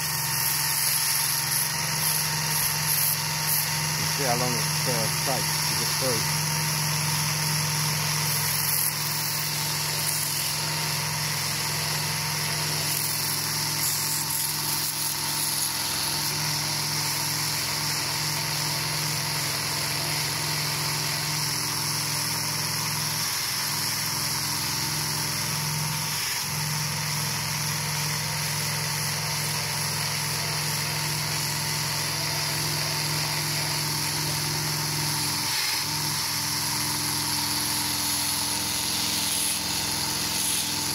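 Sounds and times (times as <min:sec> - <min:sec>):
power tool wire brush scrubbing: 0:00.0 - 0:40.9.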